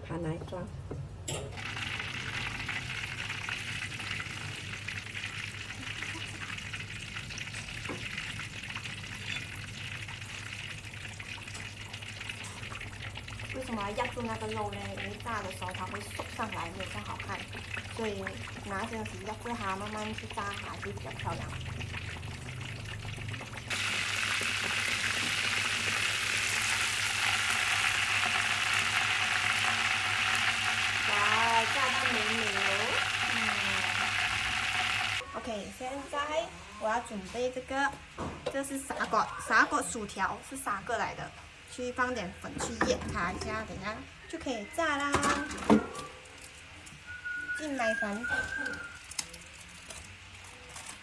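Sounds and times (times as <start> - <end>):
meat deep-frying in oil: 1.5 - 36.4, 38.5 - 51.0.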